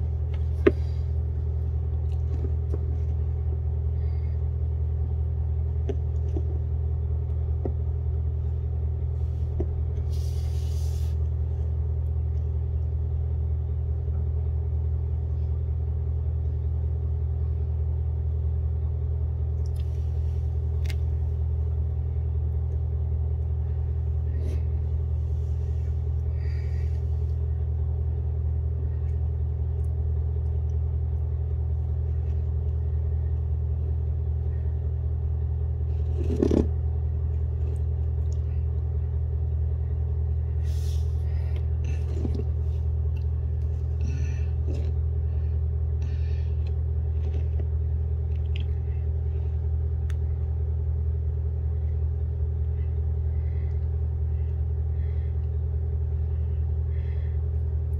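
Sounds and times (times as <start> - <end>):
low hum: 0.0 - 57.9.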